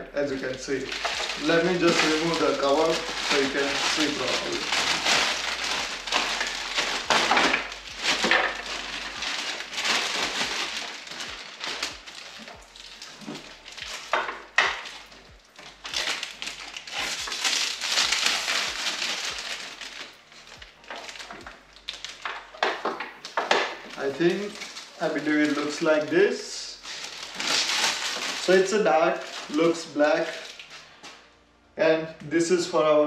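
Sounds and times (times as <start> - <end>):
plastic bag crinkling: 0.0 - 31.3.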